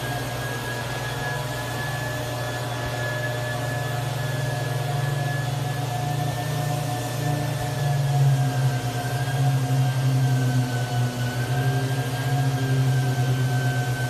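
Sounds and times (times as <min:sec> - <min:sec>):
electric motor humming: 0:00.0 - 0:14.0
faint high whine: 0:00.0 - 0:14.0.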